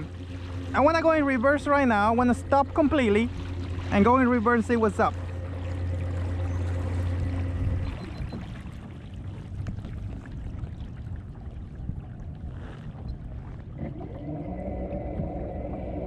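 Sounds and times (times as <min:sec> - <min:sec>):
water lapping along hull: 0:00.0 - 0:16.0.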